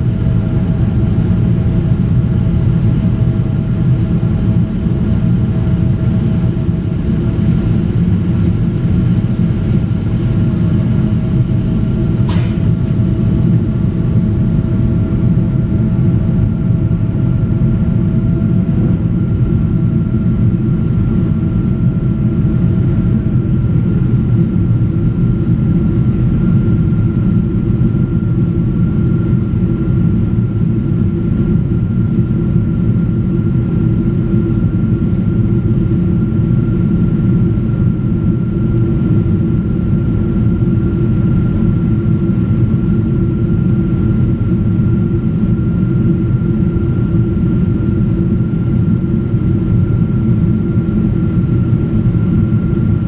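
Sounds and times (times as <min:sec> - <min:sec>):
jet engine rumble: 0:00.0 - 0:53.0.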